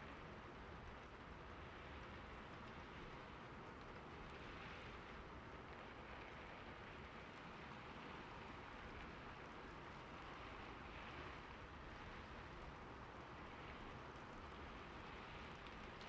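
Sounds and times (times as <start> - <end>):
rain on a roof: 0.0 - 16.0.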